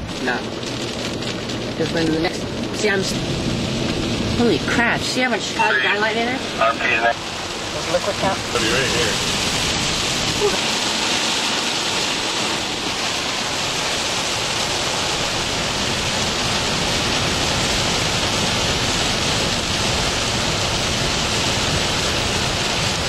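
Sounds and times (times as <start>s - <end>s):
heavy rain on a vehicle: 0.0s - 23.0s.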